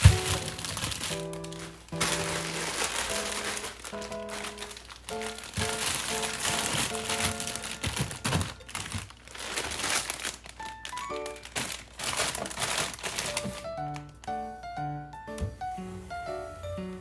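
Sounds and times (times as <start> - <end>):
plastic bags crinkling: 0.0 - 14.4
light background music: 0.0 - 17.0.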